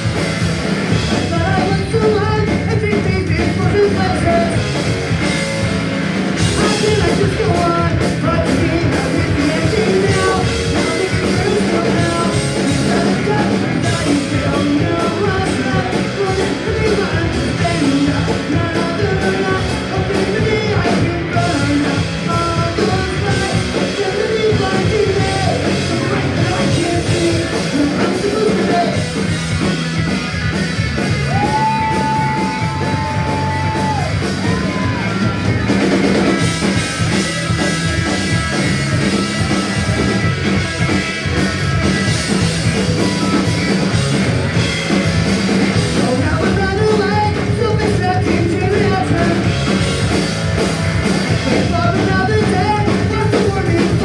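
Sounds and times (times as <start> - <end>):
sung and yelled vocals: 0.0 - 5.3, 6.2 - 29.7, 31.0 - 50.2, 50.9 - 54.0
bass guitar: 0.0 - 54.0
distorted electric guitars: 0.0 - 54.0
drum kit: 0.0 - 54.0.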